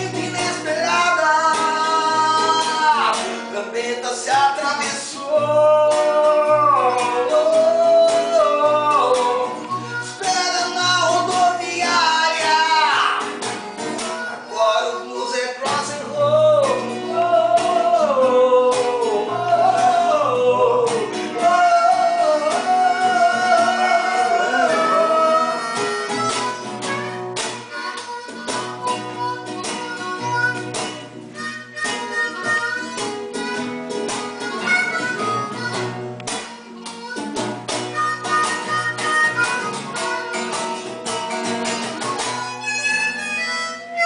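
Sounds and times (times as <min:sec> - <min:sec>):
guitar playing: 0:00.0 - 0:44.0.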